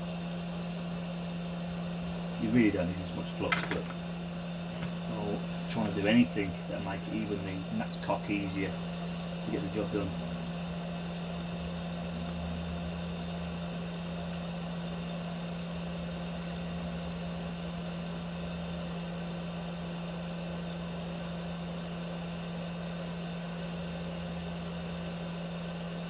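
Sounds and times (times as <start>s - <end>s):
electrical hum: 0.0s - 26.0s
fan whir: 0.0s - 26.0s.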